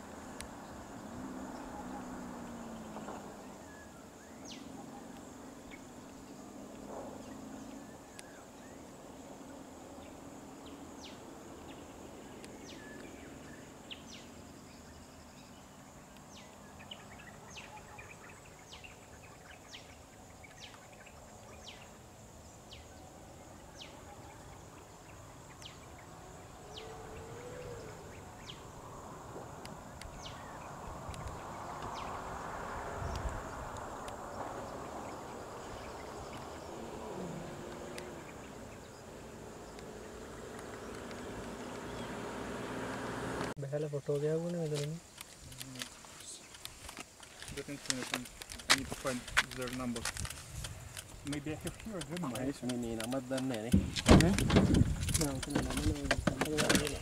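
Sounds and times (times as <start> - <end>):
idling vehicle engines: 0.0 - 57.0
insects droning: 0.0 - 57.0.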